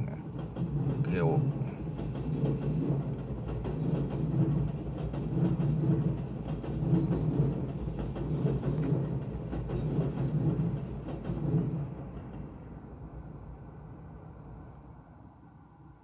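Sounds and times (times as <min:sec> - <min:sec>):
train wheels rumbling: 0:00.0 - 0:14.6.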